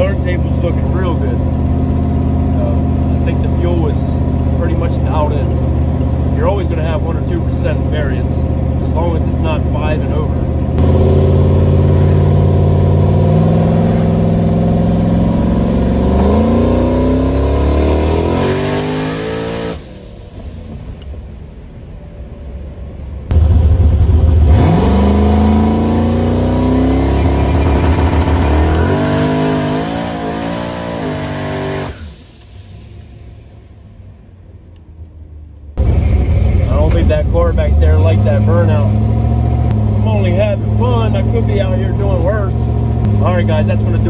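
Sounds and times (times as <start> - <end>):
car engine accelerating hard: 0.0 - 33.8, 35.8 - 44.0.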